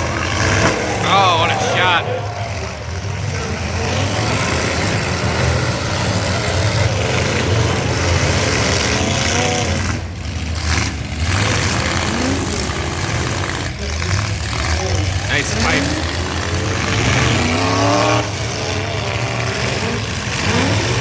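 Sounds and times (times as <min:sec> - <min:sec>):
pickup truck engines revving: 0:00.0 - 0:21.0.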